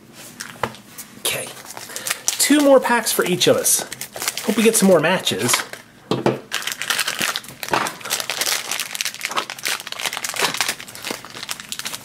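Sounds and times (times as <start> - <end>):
plastic wrapper crinkling: 1.3 - 12.0.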